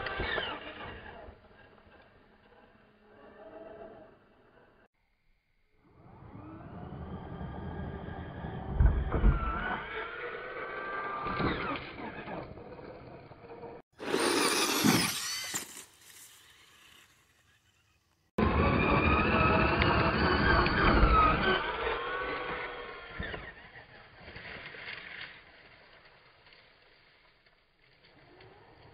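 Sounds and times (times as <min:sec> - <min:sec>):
rc truck electric motor whining: 0:00.0 - 0:04.9, 0:05.8 - 0:25.4.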